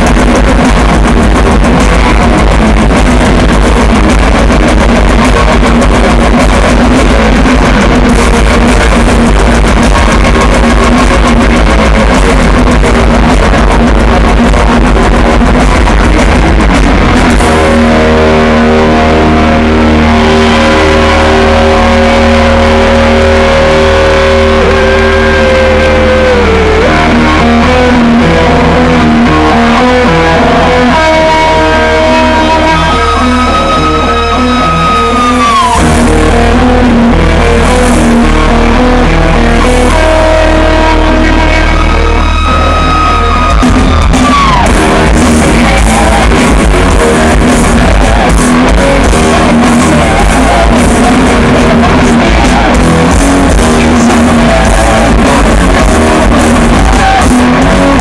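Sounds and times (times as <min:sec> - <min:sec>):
long held guitar notes: 0:00.0 - 0:58.0
loud live rock music: 0:00.0 - 0:58.0.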